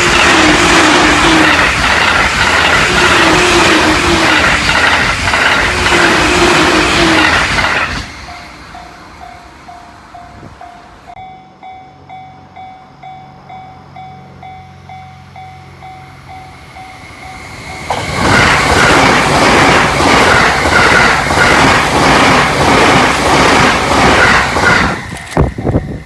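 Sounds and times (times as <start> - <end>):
train wheels clattering: 0.0 - 11.2, 15.6 - 26.0
level crossing warning bell: 0.0 - 19.3, 24.2 - 26.0.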